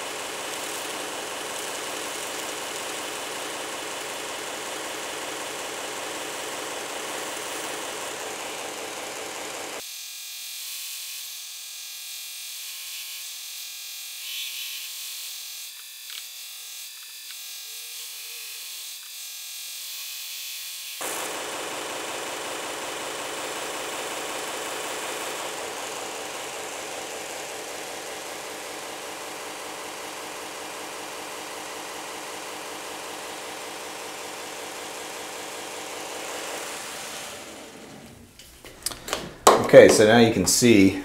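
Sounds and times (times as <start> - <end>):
belt grinder grinding steel blade: 0.0 - 9.9, 12.0 - 39.1
grinder motor running: 0.0 - 41.0.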